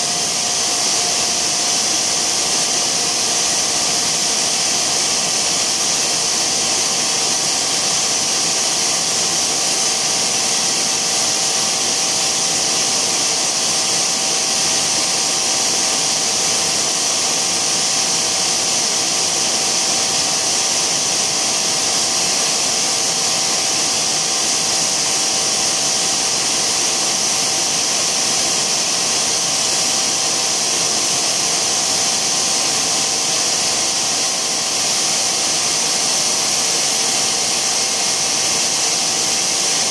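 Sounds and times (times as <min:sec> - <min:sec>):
machine hissing: 0:00.0 - 0:39.9.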